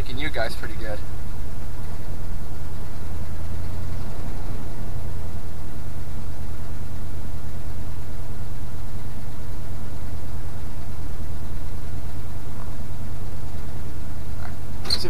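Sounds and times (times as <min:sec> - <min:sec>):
rough truck engine idling: 0:00.0 - 0:15.0.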